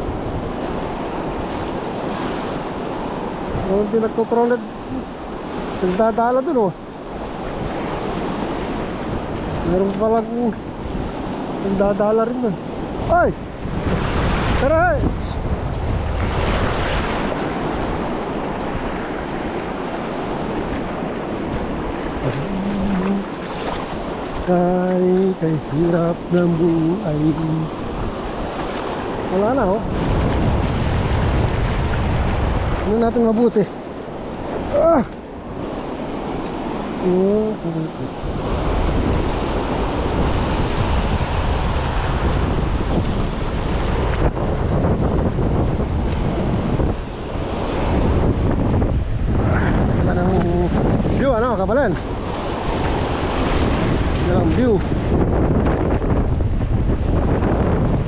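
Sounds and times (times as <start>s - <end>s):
ocean surf washing on shore: 0.0s - 58.0s
wind rumbling on microphone: 0.0s - 58.0s.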